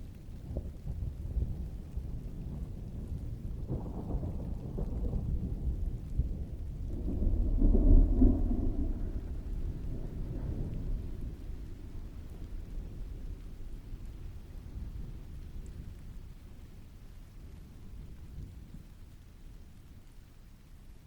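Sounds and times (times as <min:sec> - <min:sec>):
distant rolling thunder: 0:00.0 - 0:20.0
steady rain: 0:00.0 - 0:21.0.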